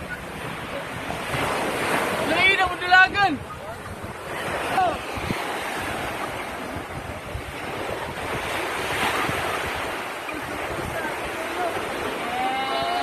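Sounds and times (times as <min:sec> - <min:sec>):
surf washing onto shore: 0:00.0 - 0:13.0
wind buffeting microphone: 0:00.0 - 0:13.0.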